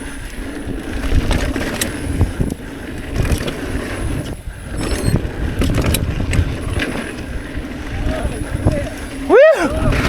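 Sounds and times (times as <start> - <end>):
bike rattling and clicking: 0.0 - 10.0
wind rumble on microphone: 0.0 - 10.0.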